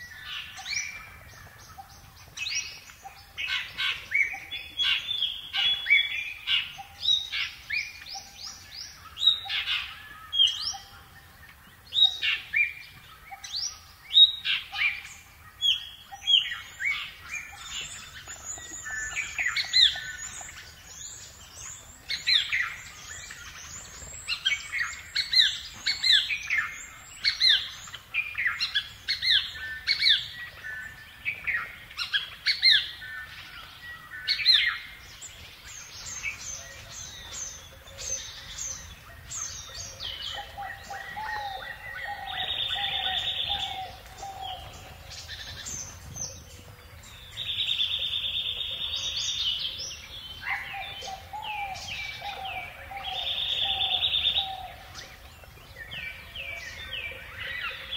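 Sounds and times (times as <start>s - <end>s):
bird chirping: 0.0s - 57.9s
birds singing and calling: 0.0s - 57.9s.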